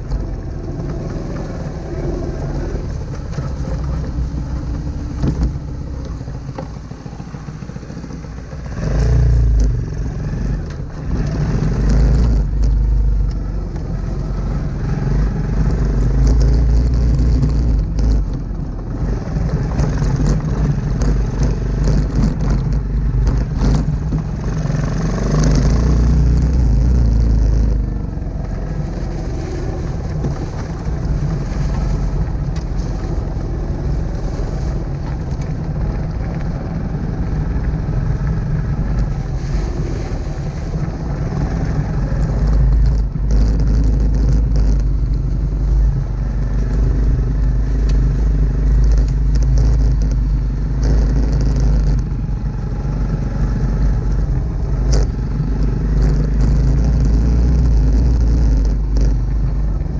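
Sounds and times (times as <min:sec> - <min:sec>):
clicks and crackles: 0:00.0 - 0:59.9
motorcycle engine running: 0:00.0 - 0:59.9.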